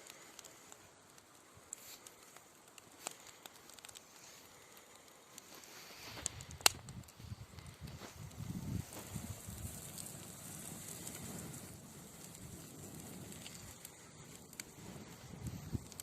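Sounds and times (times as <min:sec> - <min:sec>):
fire crackling and popping: 0:00.0 - 0:16.0
fire hissing: 0:00.0 - 0:16.0.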